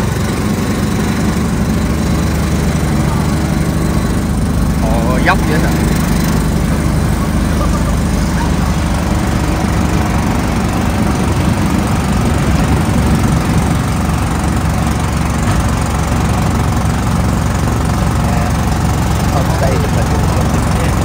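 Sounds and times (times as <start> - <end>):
small engine droning: 0.0 - 21.0.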